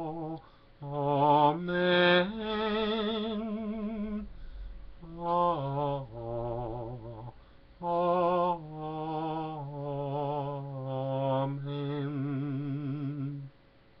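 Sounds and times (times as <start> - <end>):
man singing unaccompanied: 0.0 - 13.6.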